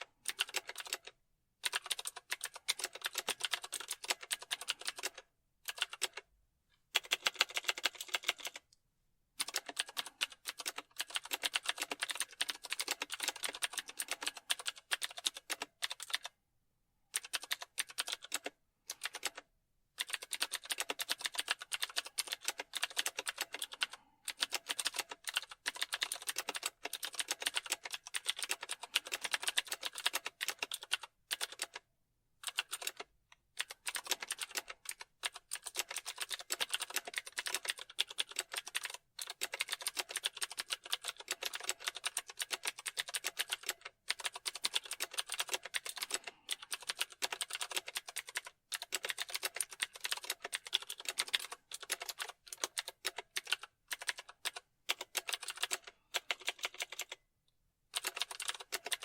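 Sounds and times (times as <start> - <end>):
computer keyboard typing: 0.0 - 6.3, 6.9 - 8.7, 9.4 - 16.4, 17.1 - 57.2, 57.9 - 59.0.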